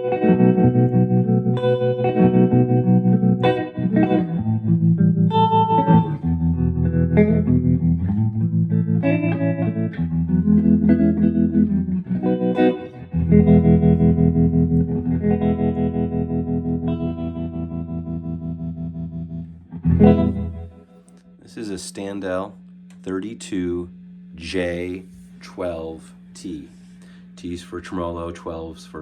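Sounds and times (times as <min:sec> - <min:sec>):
clean electric guitar chords: 0:00.0 - 0:28.6.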